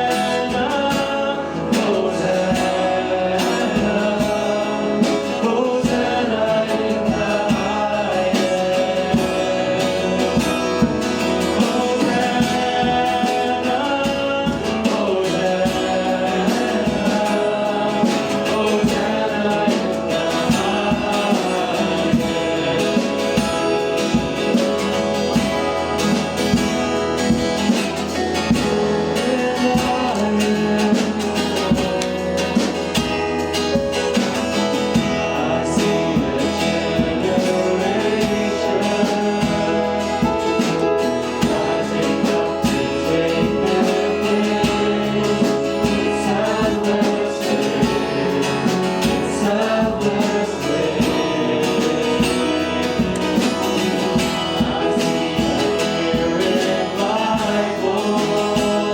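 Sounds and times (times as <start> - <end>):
band playing with guitar: 0.0 - 58.9
voices singing: 0.0 - 58.9.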